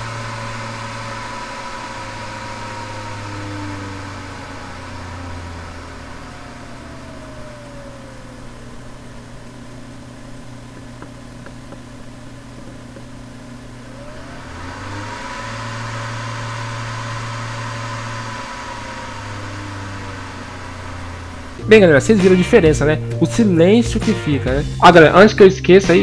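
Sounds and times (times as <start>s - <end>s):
computer fan whirring: 0.0s - 26.0s.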